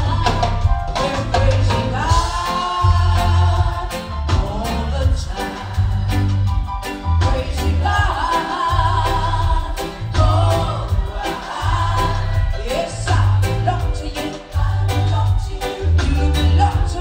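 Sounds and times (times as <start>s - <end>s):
woman singing gospel song: 0.0s - 6.2s, 7.2s - 17.0s
live band playing: 0.0s - 17.0s
pulsing bass guitar: 0.0s - 17.0s.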